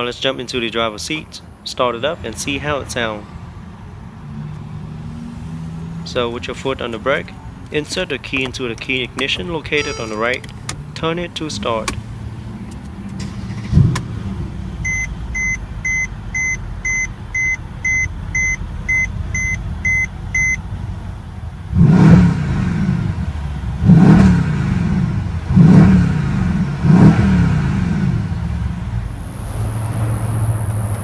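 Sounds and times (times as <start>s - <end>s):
car engine idling and revving: 1.1s - 9.7s, 10.3s - 31.0s.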